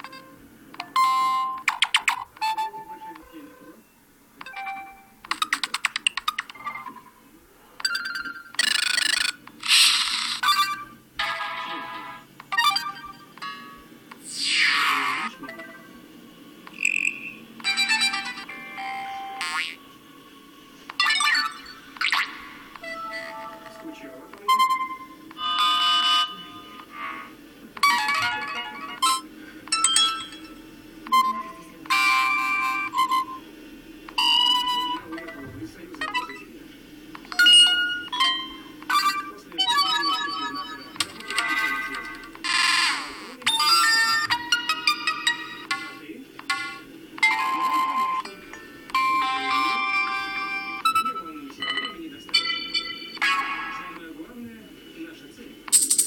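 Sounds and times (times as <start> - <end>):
tablet ringtones: 0.0 - 3.8, 4.4 - 7.2, 7.8 - 16.0, 16.7 - 19.8, 20.9 - 27.2, 27.8 - 33.4, 34.2 - 36.5, 37.3 - 54.0.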